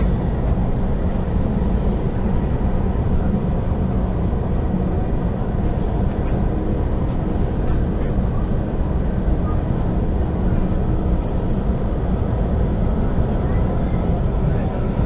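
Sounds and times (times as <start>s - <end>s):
train rumbling at speed: 0.0s - 15.0s.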